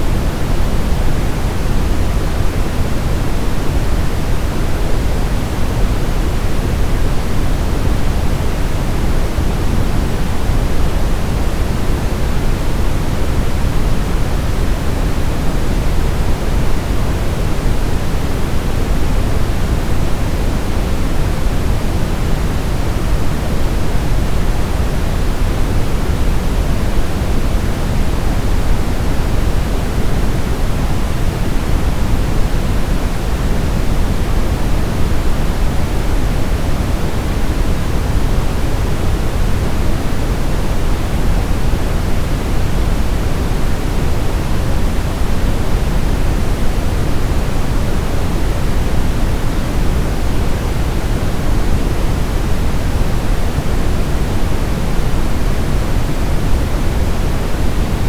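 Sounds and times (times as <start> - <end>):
steady electronic noise hiss: 0.0 - 58.0.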